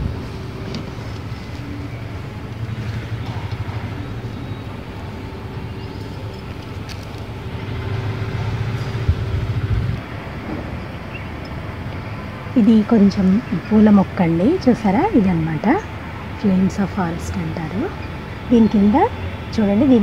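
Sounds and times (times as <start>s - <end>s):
faint constant hum: 0.0s - 20.0s
steady low rumble: 0.0s - 20.0s.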